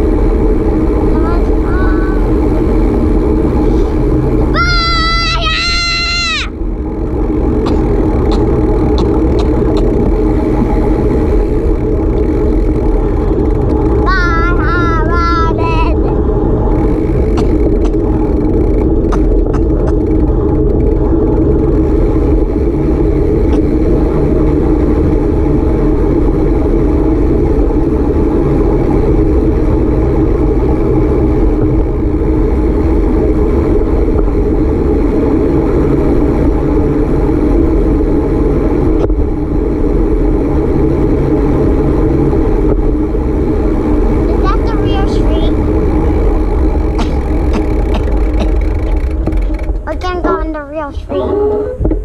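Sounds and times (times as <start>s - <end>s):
vehicle engine and road rumble: 0.0s - 52.0s.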